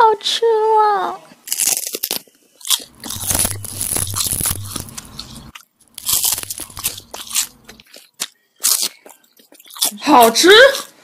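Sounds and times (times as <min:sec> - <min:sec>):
crunching of crisp snack: 0:01.4 - 0:11.0.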